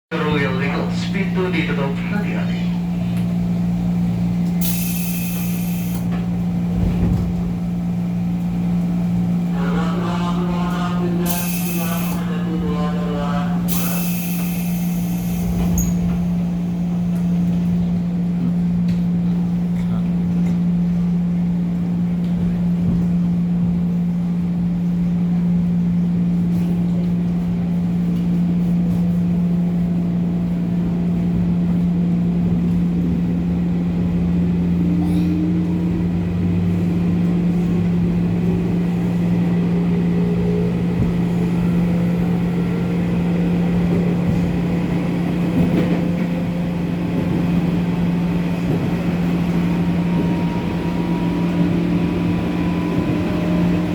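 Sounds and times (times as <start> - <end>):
wheel and track rumble: 0.1 - 53.9
train motor hum: 0.2 - 53.9.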